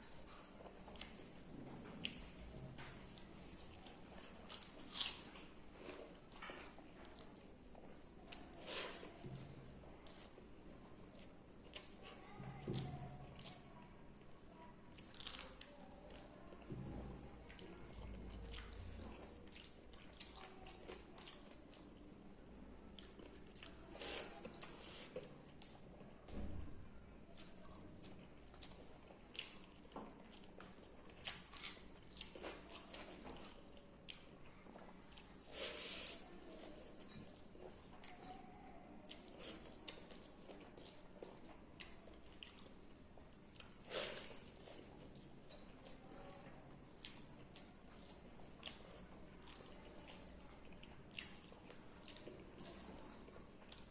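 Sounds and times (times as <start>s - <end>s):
person chewing and smacking lips: 0.0s - 22.3s, 22.9s - 53.9s.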